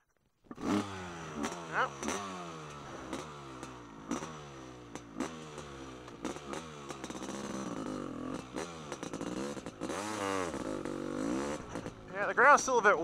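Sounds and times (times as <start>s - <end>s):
two-stroke engine revving: 0.5s - 13.0s.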